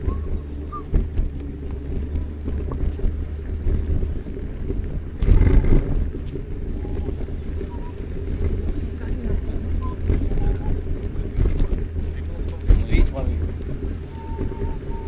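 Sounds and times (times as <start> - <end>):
street traffic rumble: 0.0 - 15.0
wind buffeting microphone: 0.0 - 15.0.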